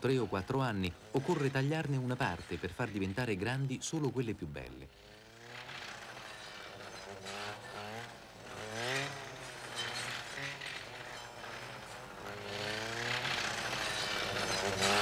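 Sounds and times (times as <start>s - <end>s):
brush cutter revving: 0.0s - 3.2s, 4.9s - 15.0s.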